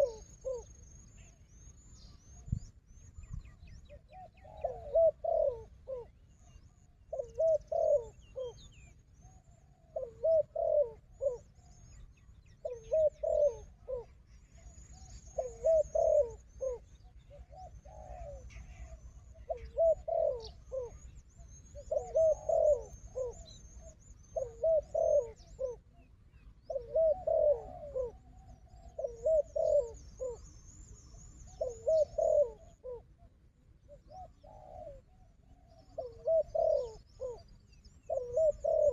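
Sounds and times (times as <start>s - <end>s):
doves cooing: 0.0s - 0.8s, 3.9s - 8.7s, 9.3s - 11.9s, 12.6s - 38.9s.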